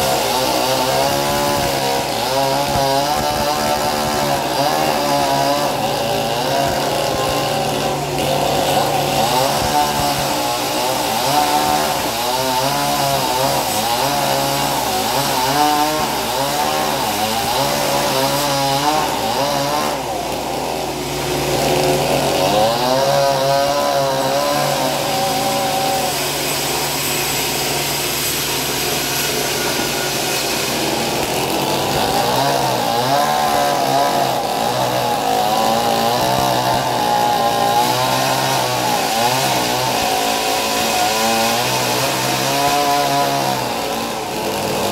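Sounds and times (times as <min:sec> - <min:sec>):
saw blade whine: 0:00.0 - 0:44.9.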